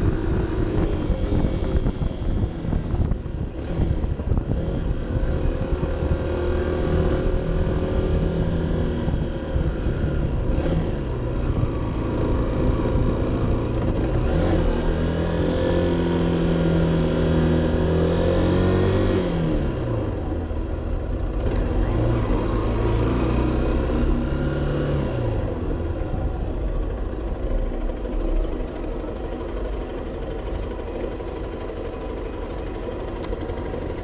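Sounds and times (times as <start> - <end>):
motorcycle engine under load: 0.0 - 34.0.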